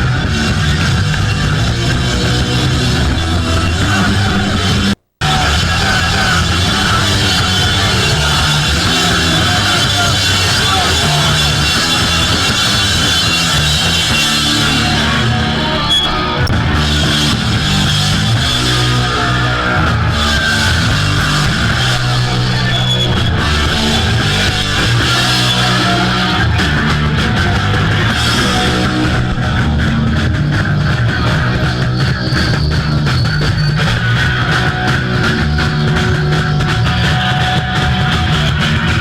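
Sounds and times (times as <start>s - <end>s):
punk band playing live: 0.0s - 39.0s.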